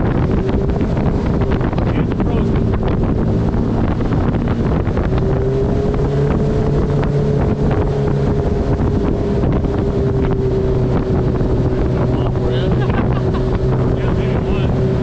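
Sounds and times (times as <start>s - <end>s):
jet boat engine running: 0.0s - 15.0s
wind buffeting microphone: 0.0s - 15.0s.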